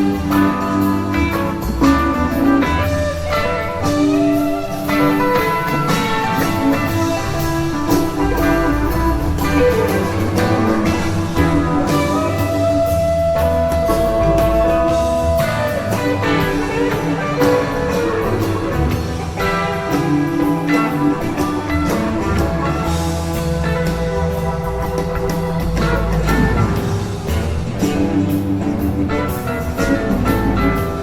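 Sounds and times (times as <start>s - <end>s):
drum kit: 0.0s - 31.0s
electric guitar: 0.0s - 31.0s.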